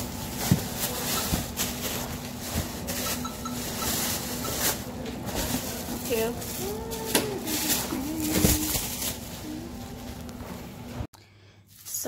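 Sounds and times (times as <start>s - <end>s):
plastic bags rustling: 0.0s - 11.1s
steady low hum: 0.0s - 11.6s.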